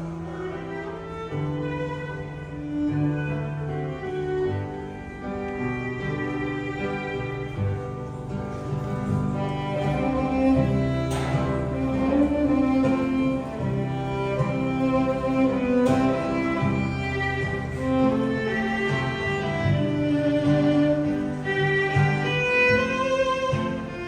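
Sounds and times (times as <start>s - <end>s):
cello long held notes: 0.0s - 24.0s
violin long held notes: 0.0s - 24.0s.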